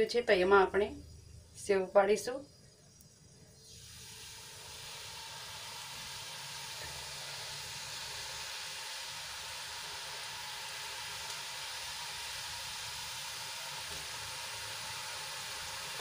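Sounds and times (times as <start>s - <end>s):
dough sizzling in hot oil: 2.9s - 16.0s.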